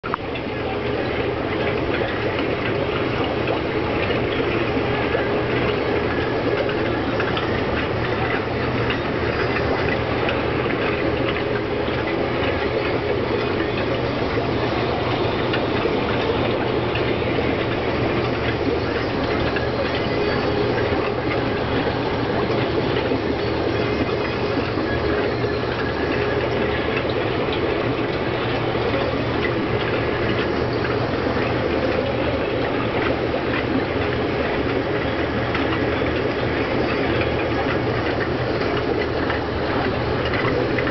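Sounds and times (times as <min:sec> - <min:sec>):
air pumps and filters humming: 0:00.0 - 0:40.9
water rushing: 0:00.1 - 0:40.9.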